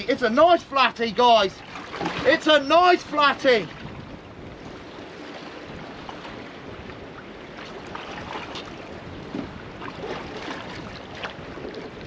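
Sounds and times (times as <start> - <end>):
wind and sea: 0.0 - 12.0
wind buffeting microphone: 0.0 - 12.0.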